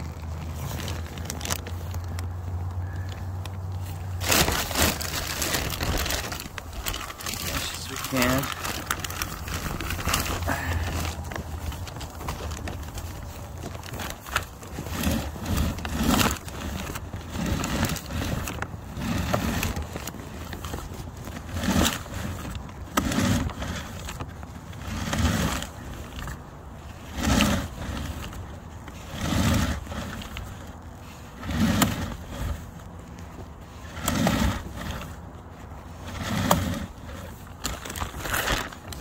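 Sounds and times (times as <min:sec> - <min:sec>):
scraping and rustling handling noise: 0:00.0 - 0:39.0.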